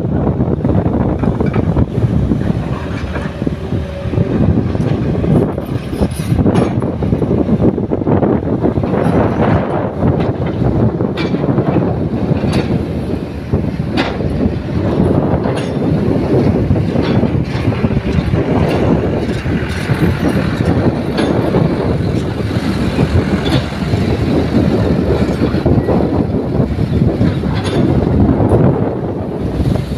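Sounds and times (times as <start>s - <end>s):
diesel engines rumbling: 0.0s - 29.9s
excavator digging clanks: 0.1s - 29.9s.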